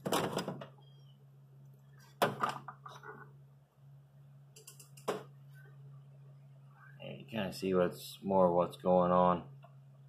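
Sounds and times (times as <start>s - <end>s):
steady low hum: 0.2s - 10.0s.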